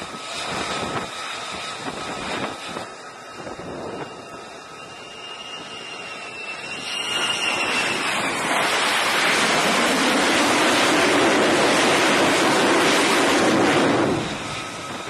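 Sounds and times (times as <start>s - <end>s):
jet engine whine: 0.0s - 15.0s
jet noise rush: 0.0s - 15.0s.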